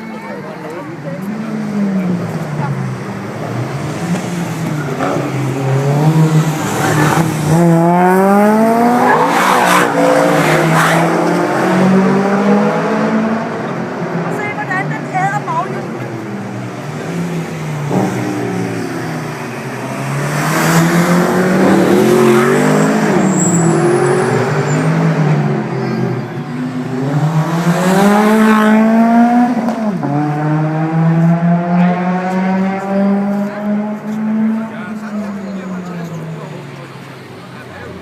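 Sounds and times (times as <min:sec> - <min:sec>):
sports car engine accelerating: 0:00.7 - 0:37.3.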